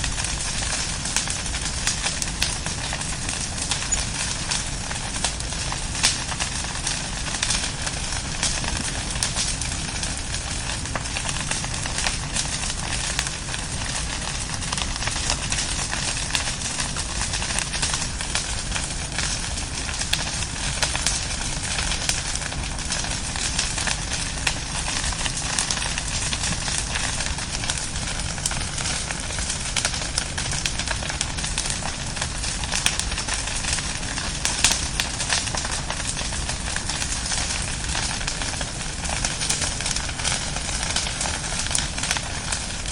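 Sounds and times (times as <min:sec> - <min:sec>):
bonfire crackling and popping: 0:00.0 - 0:42.9.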